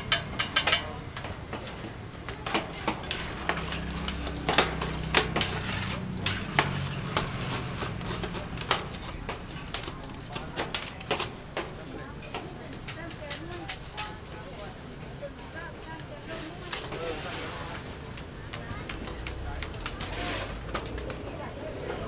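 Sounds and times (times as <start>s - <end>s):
utensils clattering against dishes: 0.0s - 22.0s.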